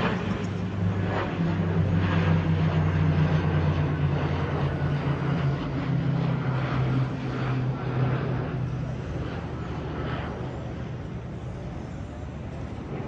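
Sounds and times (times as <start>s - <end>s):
jet engines droning: 0.0s - 13.0s.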